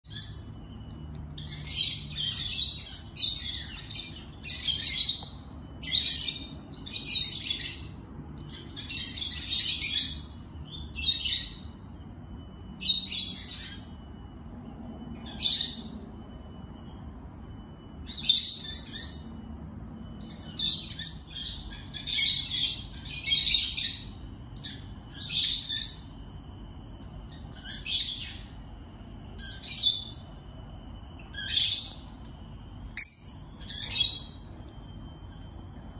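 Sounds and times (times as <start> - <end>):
lovebird chirping: 0.0 - 35.9.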